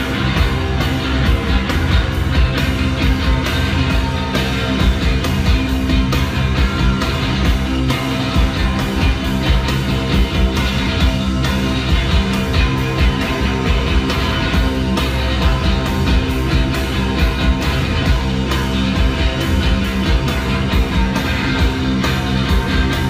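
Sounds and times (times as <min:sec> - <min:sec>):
drums keeping a steady beat: 0:00.0 - 0:23.0
electric guitars: 0:00.0 - 0:23.0.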